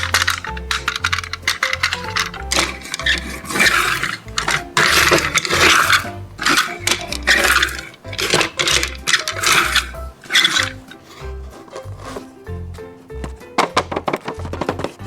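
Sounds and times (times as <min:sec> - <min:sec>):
toy packaging rustling: 0:00.0 - 0:12.4
background music with bass: 0:00.0 - 0:15.0.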